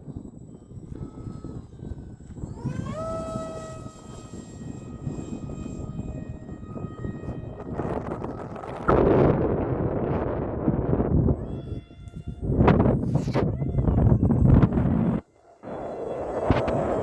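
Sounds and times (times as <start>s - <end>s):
model airplane motor whining: 0.0s - 17.0s
wind buffeting microphone: 0.0s - 17.0s.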